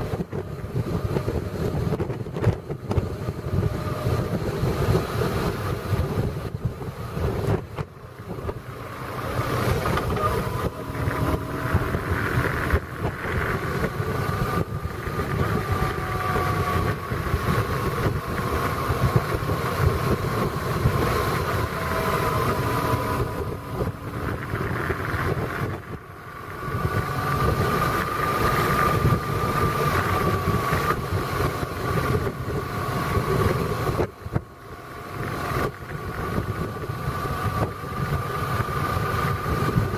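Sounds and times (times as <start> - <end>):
road noise rumbling: 0.0 - 39.9
vehicle engine running: 0.0 - 39.9
wind noise on microphone: 0.0 - 39.9.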